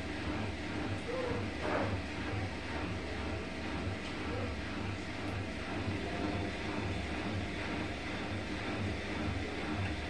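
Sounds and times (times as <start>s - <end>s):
washing machine drum humming: 0.0s - 10.0s.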